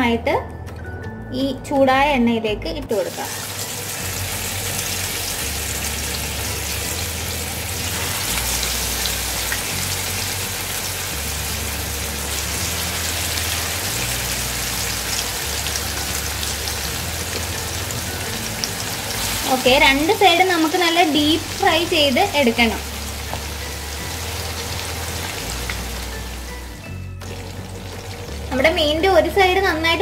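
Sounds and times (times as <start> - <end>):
fish frying in hot oil: 3.1 - 28.6.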